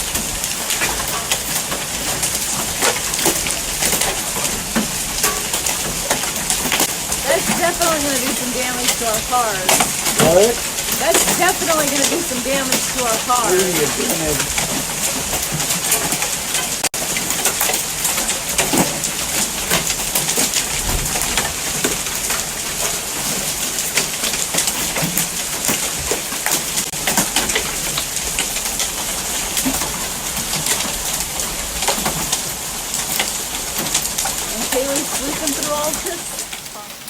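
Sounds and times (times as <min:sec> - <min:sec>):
hail and rain pelting: 0:00.0 - 0:37.0.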